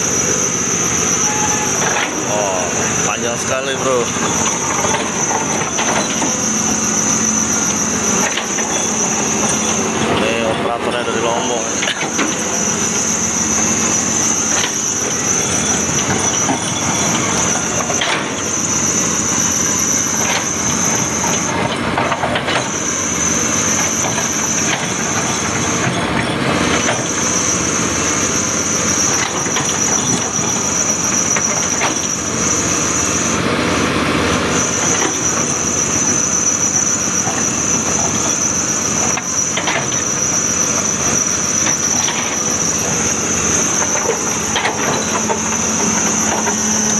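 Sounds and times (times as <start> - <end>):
excavator engine and hydraulics: 0.0 - 46.9
high-pitched squeal: 0.0 - 46.9.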